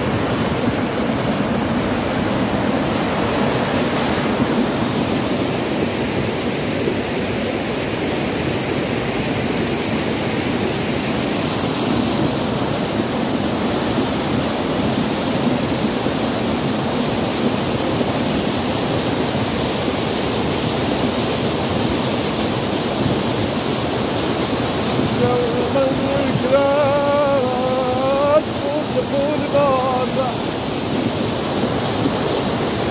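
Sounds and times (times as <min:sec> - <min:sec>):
floodwater rushing: 0:00.0 - 0:32.9.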